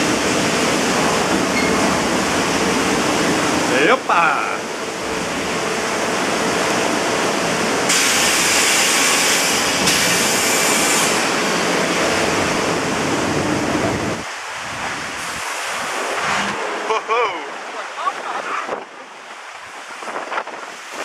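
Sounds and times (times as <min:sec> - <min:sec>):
rushing churning water: 0:00.0 - 0:21.0.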